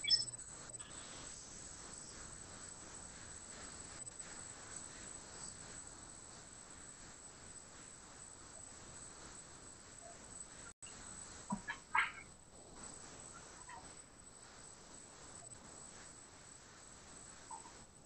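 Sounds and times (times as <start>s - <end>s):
faint microphone hiss: 0.0s - 18.0s.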